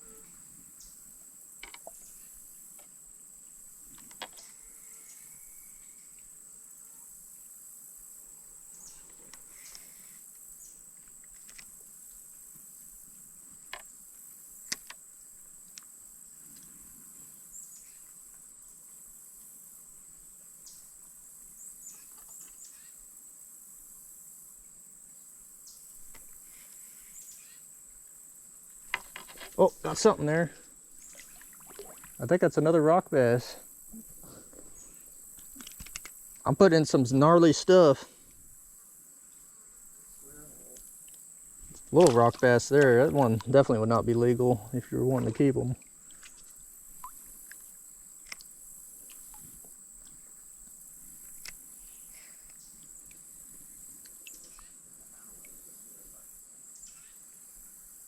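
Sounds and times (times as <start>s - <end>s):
high insect chorus: 0.0s - 58.0s.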